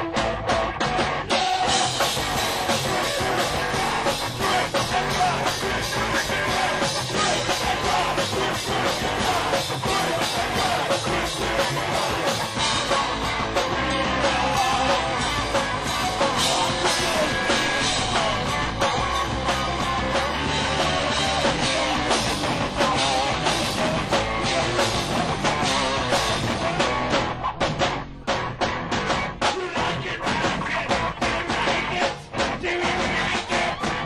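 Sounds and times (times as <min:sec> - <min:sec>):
heavy metal band playing: 0:00.0 - 0:34.0.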